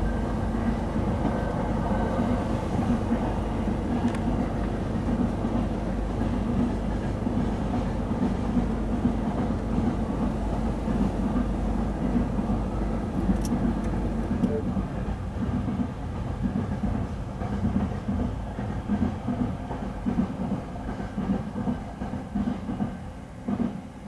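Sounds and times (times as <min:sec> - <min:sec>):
freight train rolling on rails: 0:00.0 - 0:24.0.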